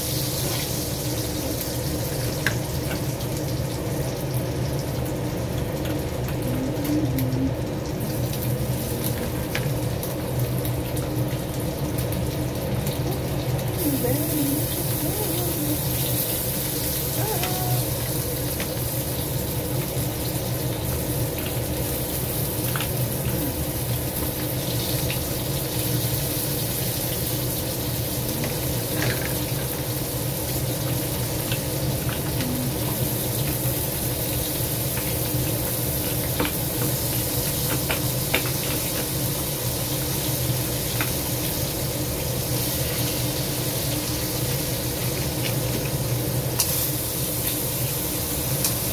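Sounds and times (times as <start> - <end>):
food sizzling in oil: 0.0 - 48.9
low steady hum: 0.0 - 48.9.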